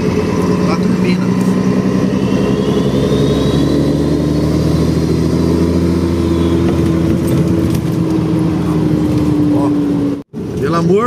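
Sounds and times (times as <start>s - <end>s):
diesel truck engine running: 0.0s - 11.0s
turbocharger whine: 0.0s - 11.0s.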